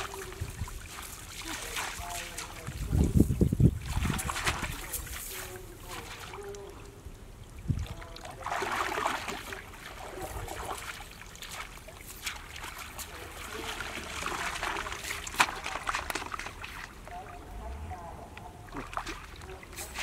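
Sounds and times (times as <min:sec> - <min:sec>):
water sloshing and trickling: 0:00.0 - 0:20.0.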